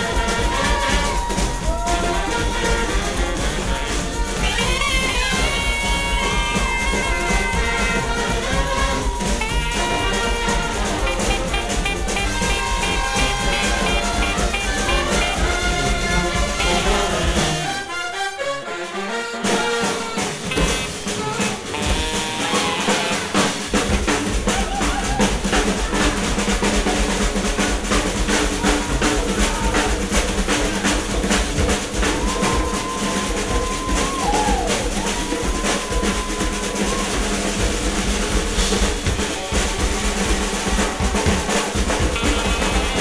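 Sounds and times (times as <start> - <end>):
snare drum rolls: 0.0 - 17.9, 19.4 - 43.0
live band music: 0.0 - 43.0.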